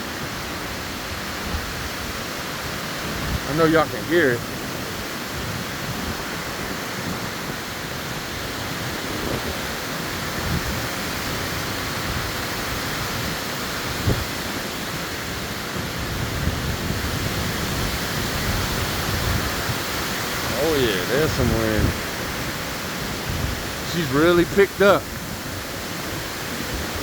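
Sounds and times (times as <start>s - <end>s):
wind buffeting microphone: 0.0s - 27.0s
wind gusting through trees: 0.0s - 27.0s.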